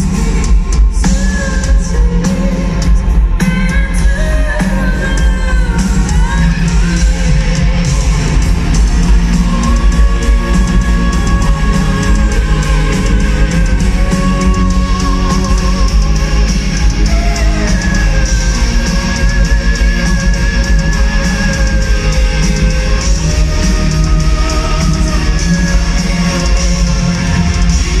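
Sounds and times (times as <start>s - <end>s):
symphonic metal band playing live: 0.0s - 28.0s.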